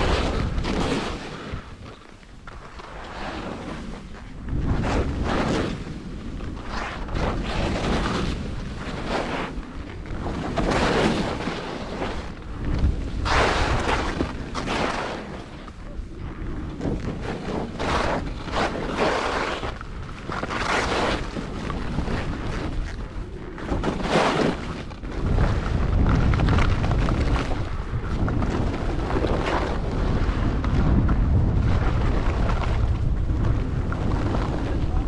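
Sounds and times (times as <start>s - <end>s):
skis scraping on snow: 0.0s - 35.0s
wind rumble on microphone: 0.0s - 35.0s.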